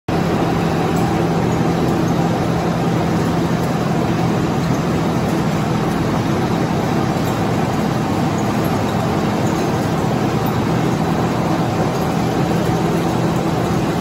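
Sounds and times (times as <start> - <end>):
factory machinery humming: 0.1 - 14.0.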